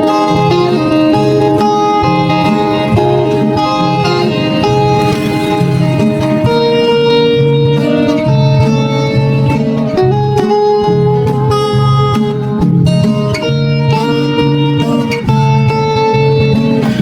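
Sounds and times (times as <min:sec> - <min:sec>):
plucked guitar: 0:00.0 - 0:17.0
low bass line: 0:00.3 - 0:17.0.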